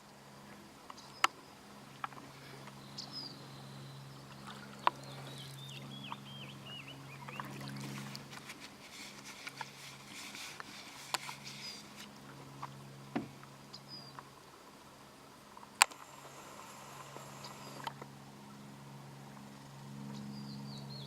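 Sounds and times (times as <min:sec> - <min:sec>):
water noise: 0:00.0 - 0:20.2
low hum: 0:00.0 - 0:21.0.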